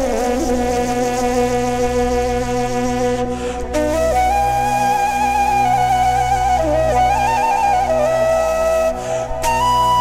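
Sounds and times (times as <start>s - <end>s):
flute melody: 0.0s - 10.0s
low drone: 0.0s - 10.0s.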